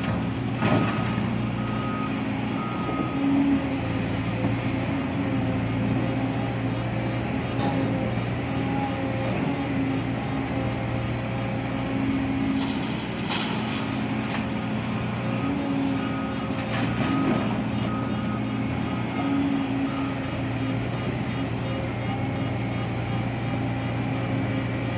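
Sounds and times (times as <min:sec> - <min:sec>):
heavy vehicle engine running: 0:00.0 - 0:24.9.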